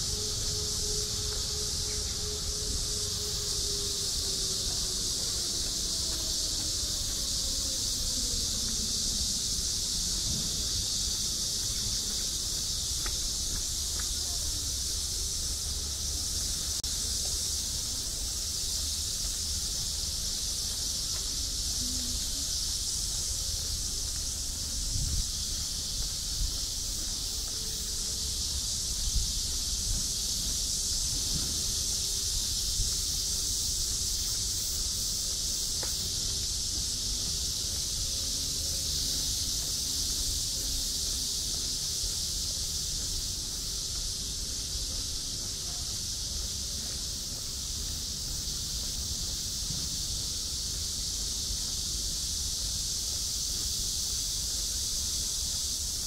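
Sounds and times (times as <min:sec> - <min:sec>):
insects chorus: 0:00.0 - 0:56.0.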